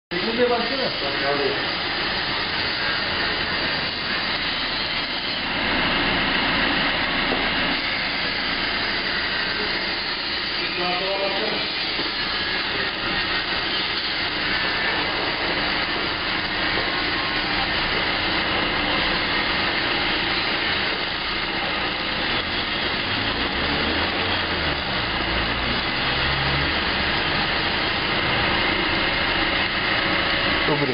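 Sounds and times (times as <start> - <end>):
machinery hiss: 0.1 - 30.9.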